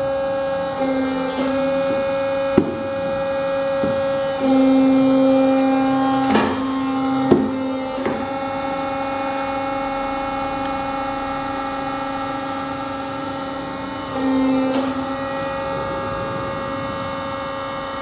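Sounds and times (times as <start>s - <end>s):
machine motor hum and whine: 0.0s - 18.0s.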